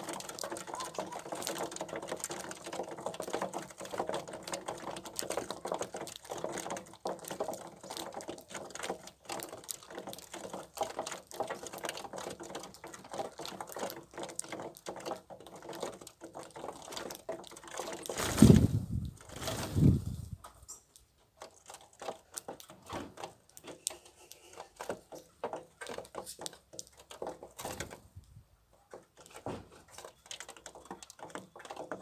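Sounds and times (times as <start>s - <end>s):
birds pecking at grain: 0.0s - 32.0s.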